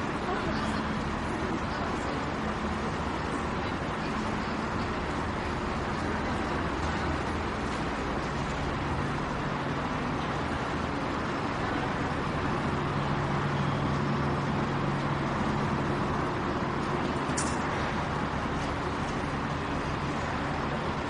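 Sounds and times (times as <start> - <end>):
station noise rumble: 0.0 - 21.0.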